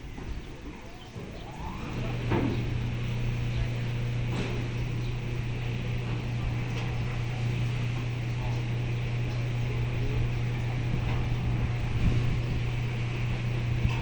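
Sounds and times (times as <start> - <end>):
engine revving and humming: 1.4 - 14.0.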